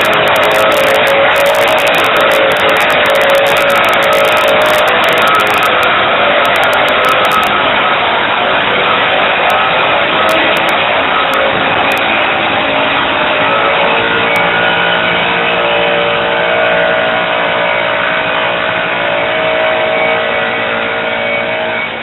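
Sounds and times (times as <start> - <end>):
propeller aircraft engine drone: 0.0 - 22.0.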